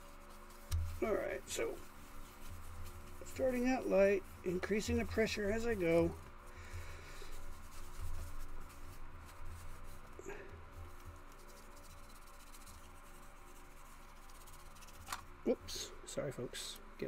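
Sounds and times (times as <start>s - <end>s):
paper towel rubbing plastic: 0.0s - 15.2s
faint low hum: 0.0s - 17.0s.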